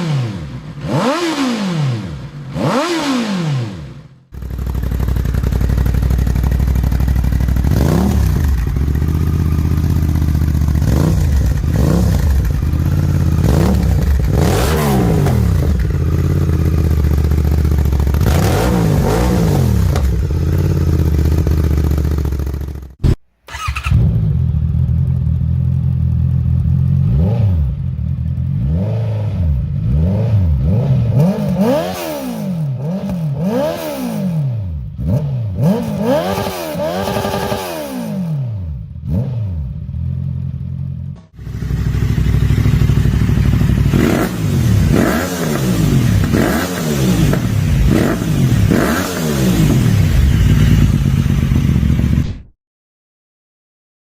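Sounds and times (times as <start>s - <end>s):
motorcycle engine running hard: 0.0s - 52.4s
motorcycle engine revving: 0.0s - 52.5s.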